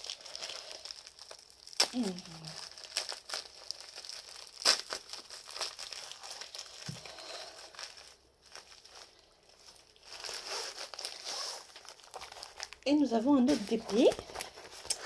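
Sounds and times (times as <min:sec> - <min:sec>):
plastic sleeve crinkling: 0:00.0 - 0:15.0.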